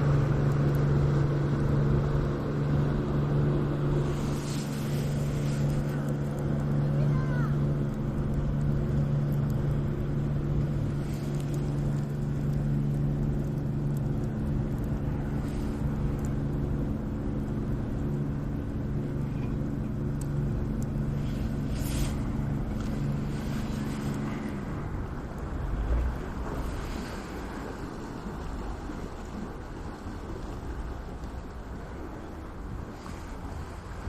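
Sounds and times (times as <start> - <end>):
faint crackles: 0.0 - 34.0.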